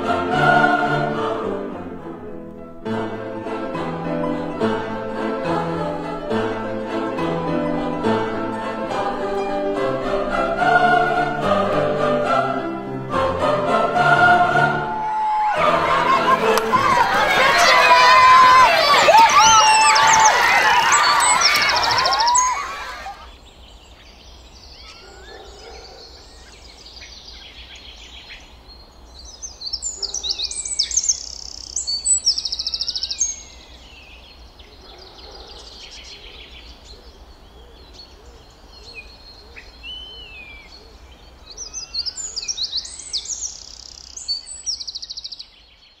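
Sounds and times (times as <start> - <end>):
songbirds chirping and singing: 2.8 - 46.0.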